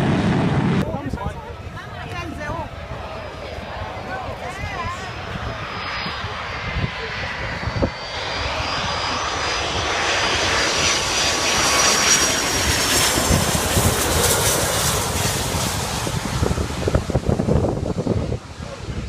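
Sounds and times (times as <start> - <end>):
airplane engines passing: 0.0 - 19.0.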